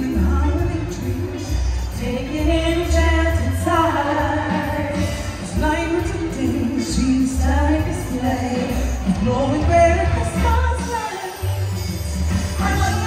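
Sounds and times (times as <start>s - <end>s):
live band playing: 0.0s - 13.0s
woman singing lead: 0.0s - 13.0s.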